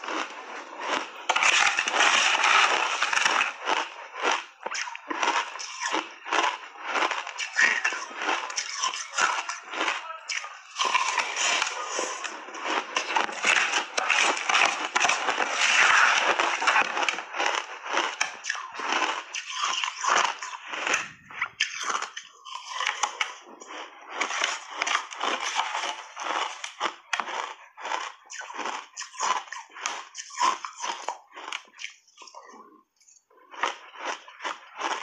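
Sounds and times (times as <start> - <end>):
crunching and chewing ice: 0.0 - 35.0.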